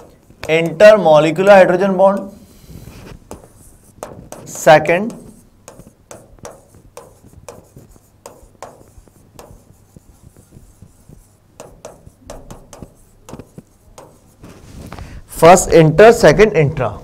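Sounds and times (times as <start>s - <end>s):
chalk scratching on chalkboard: 0.0s - 15.0s.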